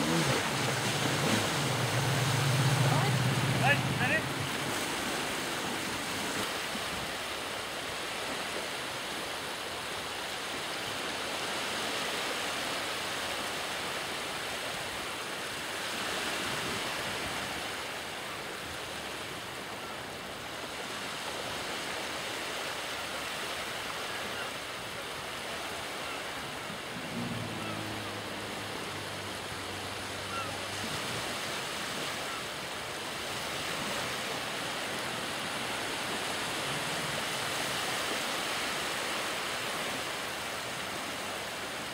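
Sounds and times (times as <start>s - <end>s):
jet ski engine hum: 0.0s - 41.9s
sea water rushing: 0.0s - 41.9s
wind: 0.0s - 41.9s.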